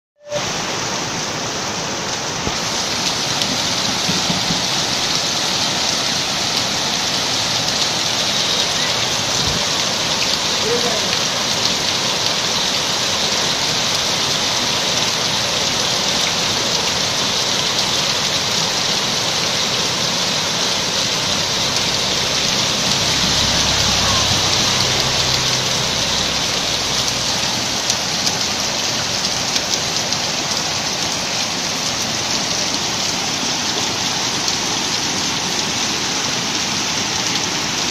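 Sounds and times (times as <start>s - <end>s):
heavy rain on a street: 0.2s - 37.9s.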